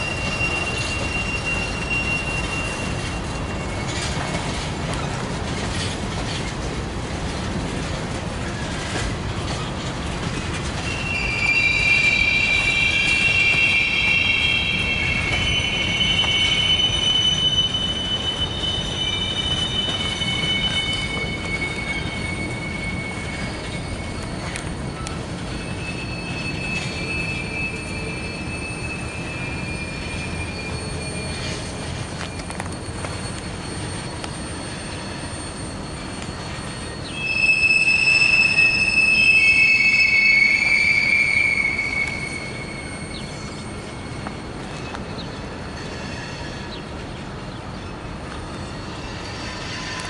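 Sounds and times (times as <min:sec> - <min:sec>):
high-pitched wheel squeal: 0:00.0 - 0:06.5, 0:10.2 - 0:47.0, 0:47.7 - 0:50.0
train clicks: 0:00.0 - 0:37.0, 0:37.8 - 0:50.0
steel wheels rumbling on rail: 0:00.0 - 0:50.0.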